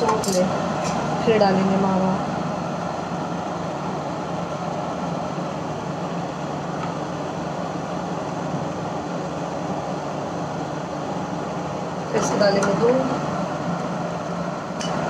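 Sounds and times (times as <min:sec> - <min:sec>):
mechanical hum and hiss: 0:00.0 - 0:15.0.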